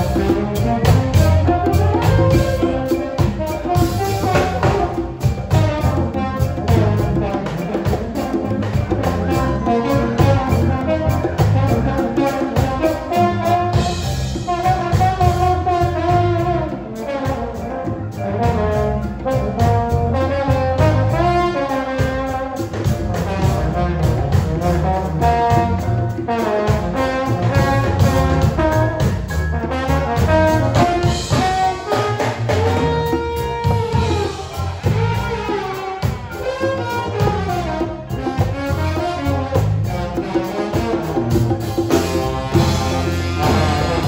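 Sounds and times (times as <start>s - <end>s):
live band playing: 0.0s - 44.0s
trombone melody: 0.0s - 44.0s.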